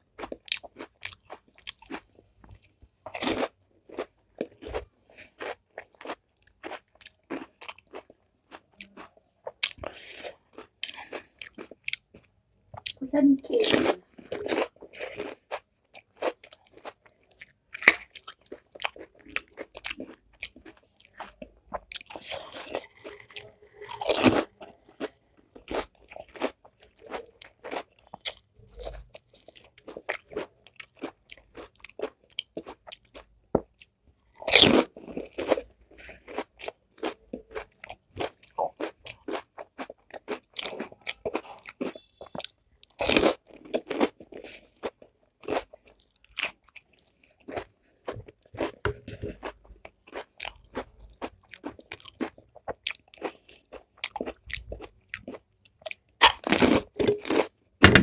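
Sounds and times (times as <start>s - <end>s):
crunching and chewing crisp shells: 0.0s - 58.0s.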